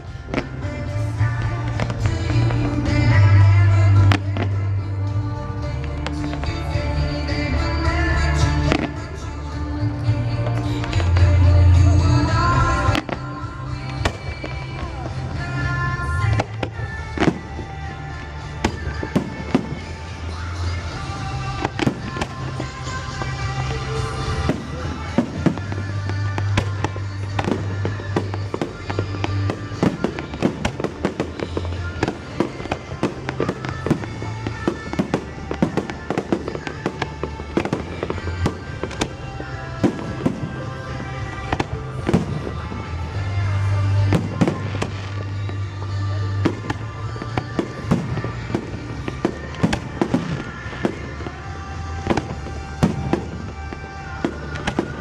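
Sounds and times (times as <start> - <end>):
fireworks bangs and crackles: 0.0 - 55.0
music with heavy bass: 0.0 - 55.0.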